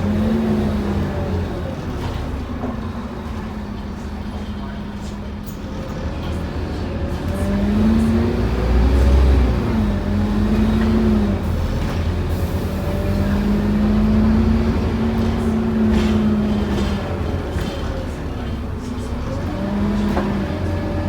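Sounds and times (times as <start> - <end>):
bus engine droning: 0.0 - 21.0.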